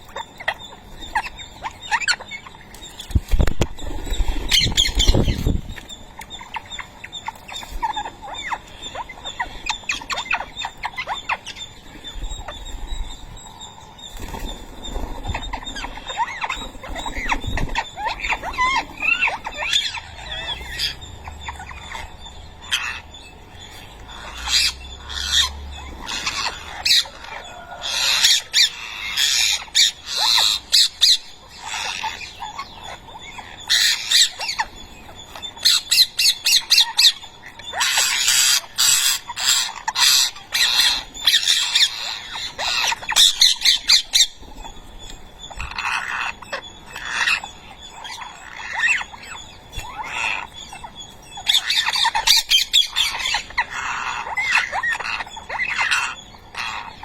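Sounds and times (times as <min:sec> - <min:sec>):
parakeet chicks squawking: 0:00.0 - 0:57.0.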